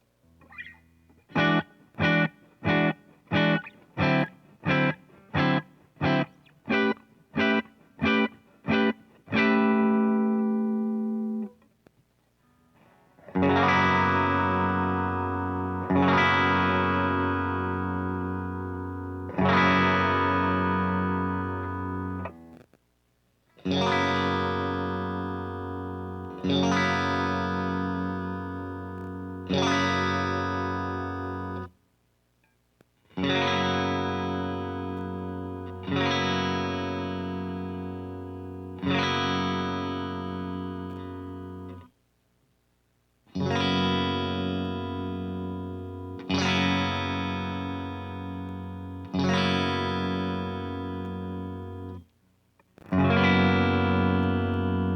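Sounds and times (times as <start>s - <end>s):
electric guitar chords: 0.2s - 11.7s, 12.5s - 22.6s, 23.6s - 31.8s, 33.1s - 41.9s, 43.3s - 52.1s, 52.8s - 54.9s.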